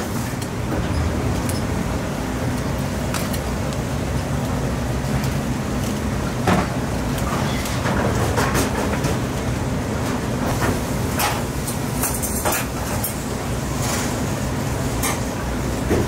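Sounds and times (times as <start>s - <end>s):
low kitchen hum: 0.0s - 16.0s.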